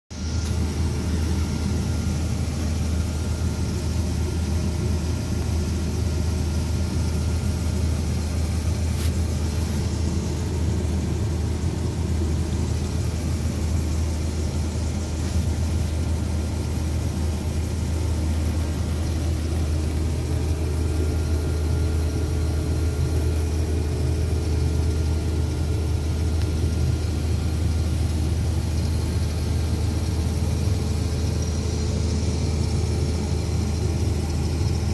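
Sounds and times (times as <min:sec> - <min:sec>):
combine harvester engine hum: 0:00.1 - 0:34.9.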